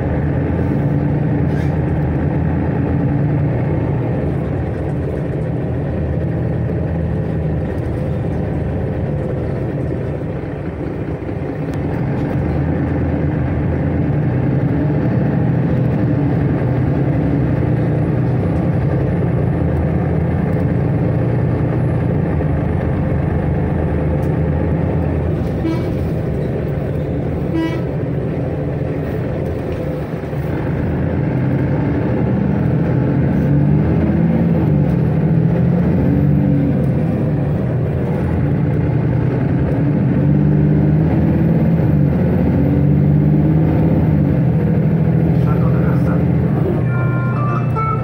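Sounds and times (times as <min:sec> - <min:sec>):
bus engine and drivetrain drone: 0:00.0 - 0:48.0.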